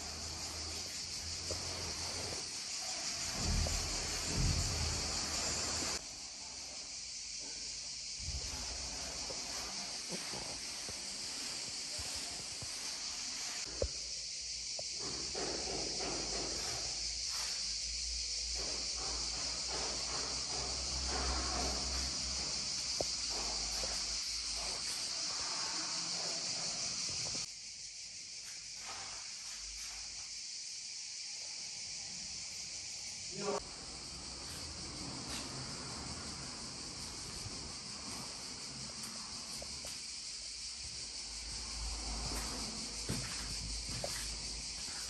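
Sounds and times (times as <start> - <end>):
high-pitched hiss: 0.0 - 45.0.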